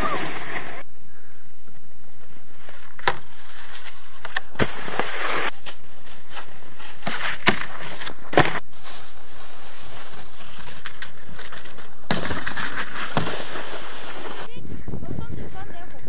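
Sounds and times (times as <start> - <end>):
snowboards scraping over snow: 0.0 - 0.8, 2.6 - 14.6.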